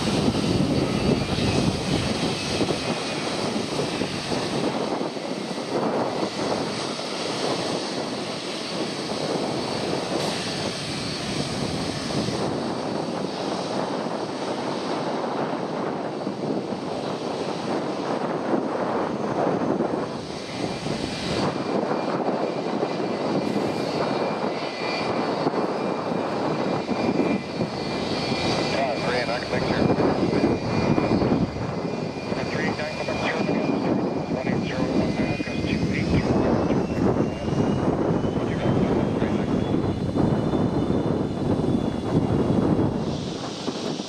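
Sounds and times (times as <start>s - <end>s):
jet engine rush and whine: 0.0s - 44.0s.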